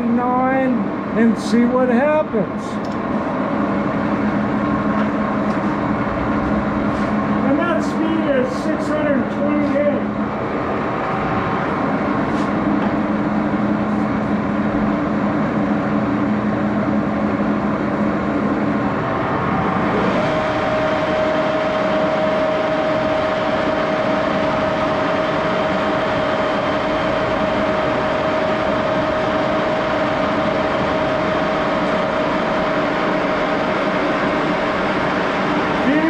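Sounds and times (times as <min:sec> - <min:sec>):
lathe humming: 0:00.0 - 0:36.0.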